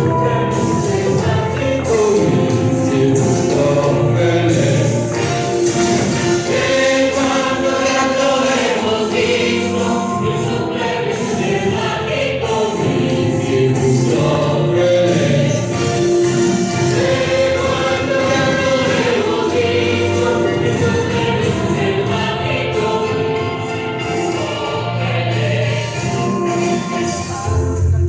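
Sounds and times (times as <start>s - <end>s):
group of voices singing: 0.0s - 28.0s
instrumental accompaniment: 0.0s - 28.0s.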